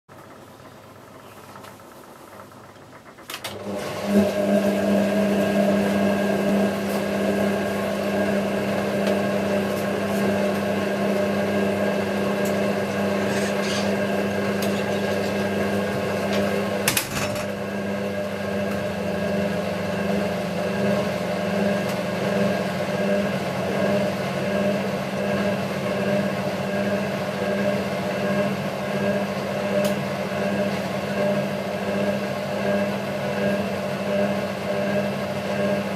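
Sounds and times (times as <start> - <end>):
drain pump running: 0.1 - 35.9
washing machine drum motor: 0.1 - 35.9.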